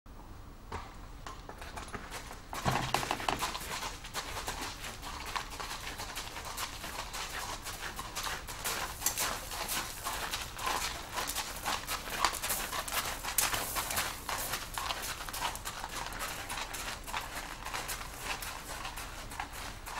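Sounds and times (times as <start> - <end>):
horse hooves clopping on hard ground: 0.7 - 19.9.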